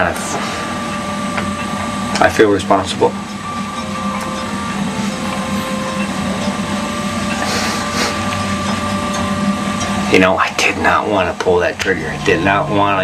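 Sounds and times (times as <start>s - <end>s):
mechanical hum with drone: 0.0s - 13.0s.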